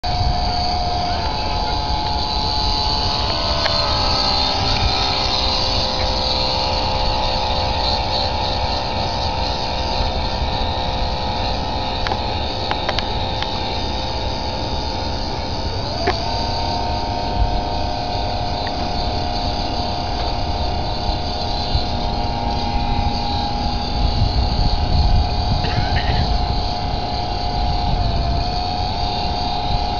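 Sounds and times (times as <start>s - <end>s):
electric motor whining: 0.0s - 29.9s.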